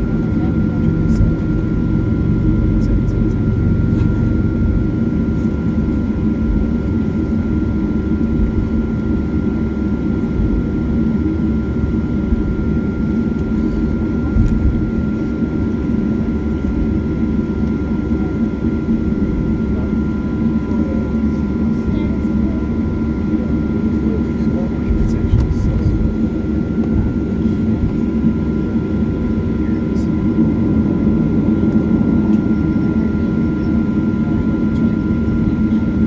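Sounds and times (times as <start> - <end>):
jet engines idling drone: 0.0 - 36.0.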